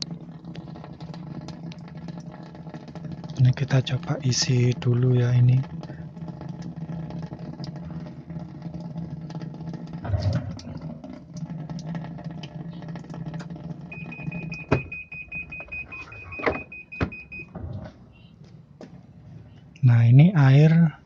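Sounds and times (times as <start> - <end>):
low hum: 0.0 - 21.0
washing machine filling: 0.0 - 21.0.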